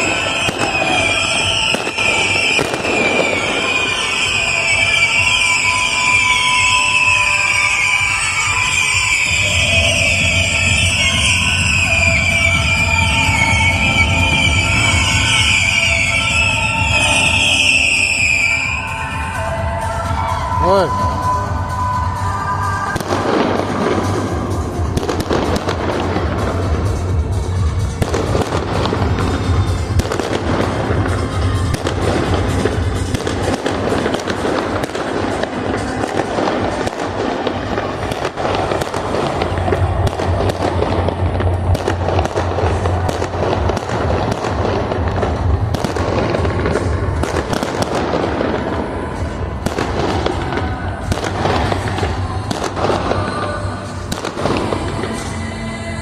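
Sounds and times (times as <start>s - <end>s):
fireworks bangs and crackles: 0.0s - 56.0s
music playing: 0.0s - 56.0s.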